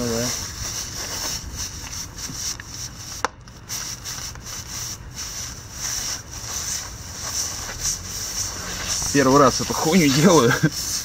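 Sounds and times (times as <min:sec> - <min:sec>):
steel rasping against rubber: 0:00.0 - 0:11.0.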